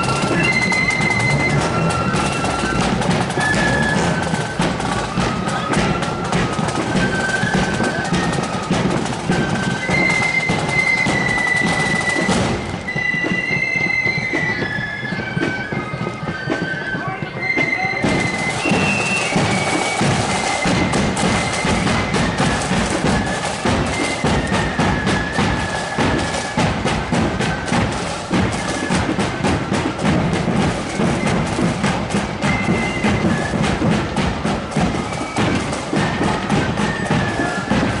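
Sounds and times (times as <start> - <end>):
flute melody: 0.0 - 38.0
rapid snare drumming: 0.0 - 38.0.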